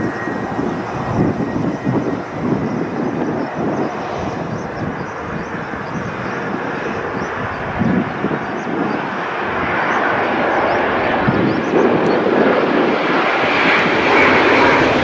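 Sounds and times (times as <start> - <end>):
jet airliner approaching: 0.0 - 15.0.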